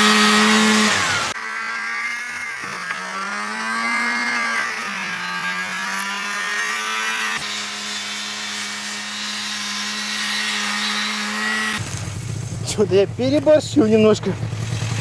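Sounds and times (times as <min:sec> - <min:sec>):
snowmobile engine at high revs: 0:00.0 - 0:15.0.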